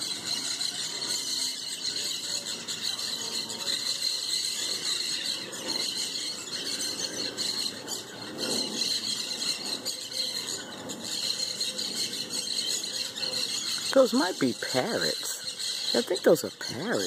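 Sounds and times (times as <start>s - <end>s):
parrots squawking: 0.0s - 17.0s.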